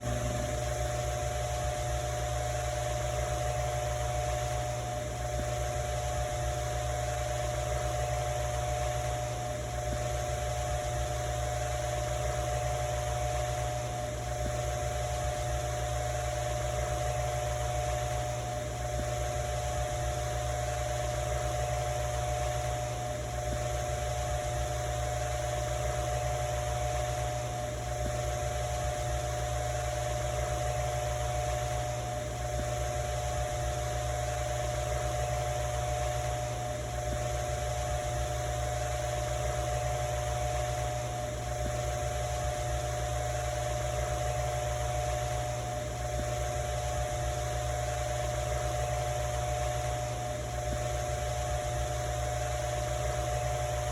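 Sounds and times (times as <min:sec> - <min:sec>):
electric fan running: 0:00.0 - 0:53.9.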